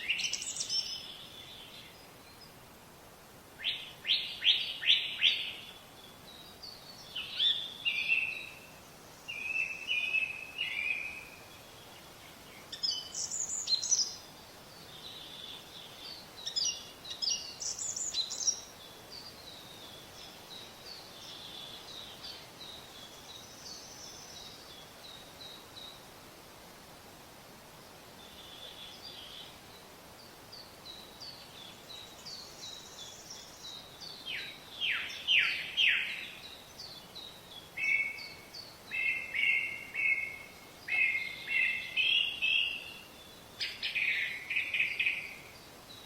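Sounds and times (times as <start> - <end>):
small birds chirping: 0.0 - 2.6, 3.6 - 26.3, 27.7 - 46.0
outdoor background noise: 0.0 - 46.0.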